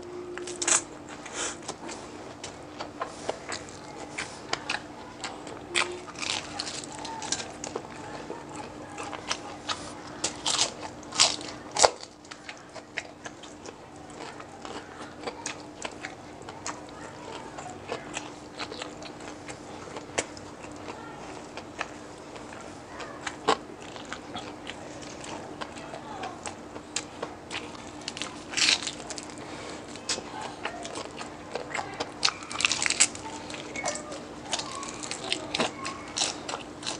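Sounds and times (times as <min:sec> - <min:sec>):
crunching crispy food: 0:00.0 - 0:36.9.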